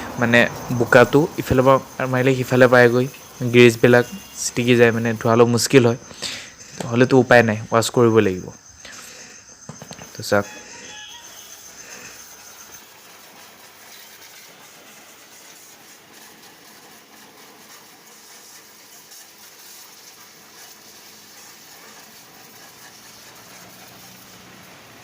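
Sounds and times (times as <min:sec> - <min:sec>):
pressure washer spraying water: 0:00.0 - 0:07.6, 0:09.8 - 0:25.0.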